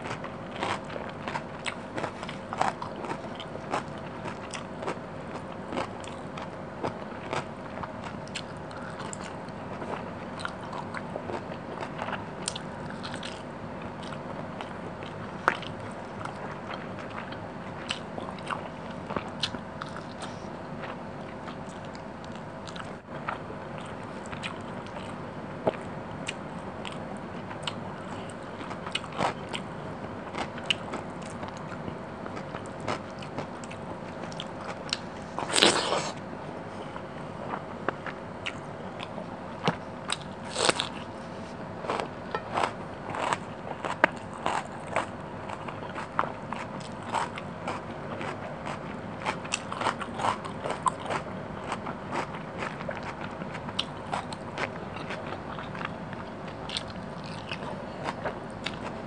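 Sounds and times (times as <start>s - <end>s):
chewing: 0.0s - 36.2s, 36.8s - 59.0s
faint steady hum: 0.0s - 59.0s.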